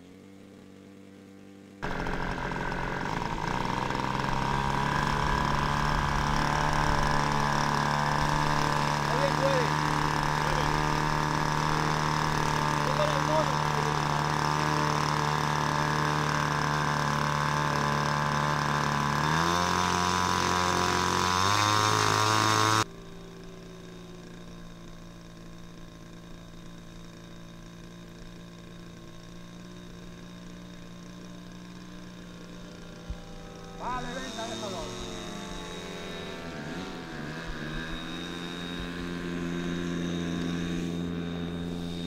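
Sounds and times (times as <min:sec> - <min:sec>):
small model engine idling: 0:00.0 - 0:42.0.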